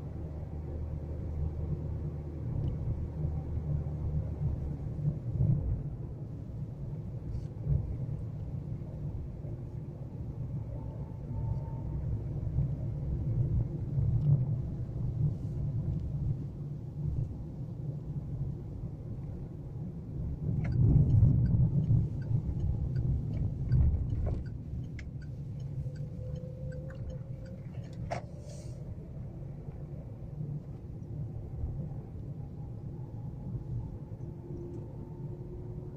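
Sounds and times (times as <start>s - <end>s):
car engine and tyre rumble: 0.0s - 35.9s.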